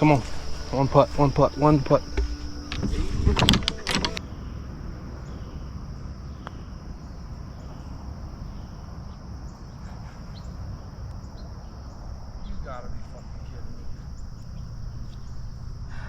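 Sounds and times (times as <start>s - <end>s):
crickets droning: 0.0s - 16.0s
low wind rumble: 0.0s - 16.0s.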